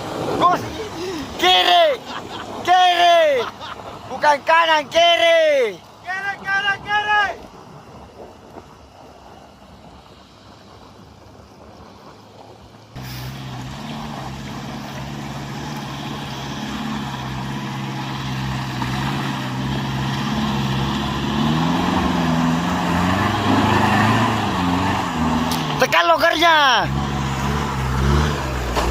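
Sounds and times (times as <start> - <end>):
truck engine straining: 0.0 - 8.6, 9.2 - 28.9.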